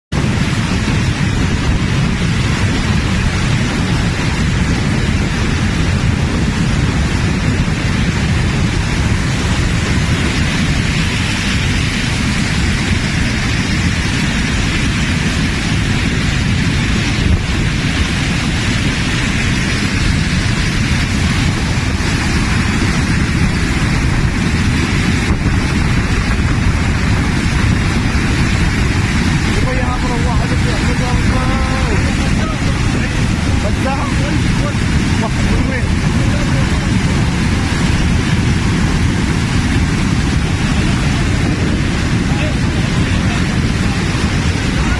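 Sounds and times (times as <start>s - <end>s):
flood water rushing: 0.2s - 44.9s.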